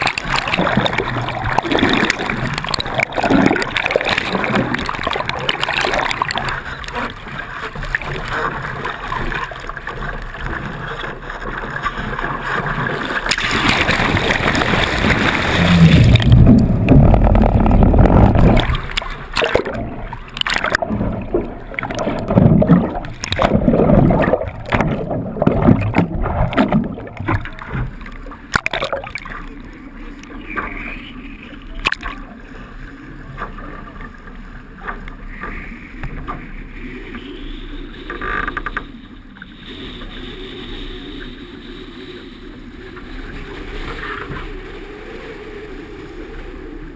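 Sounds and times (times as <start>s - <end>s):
water rushing along hulls: 0.0s - 46.9s.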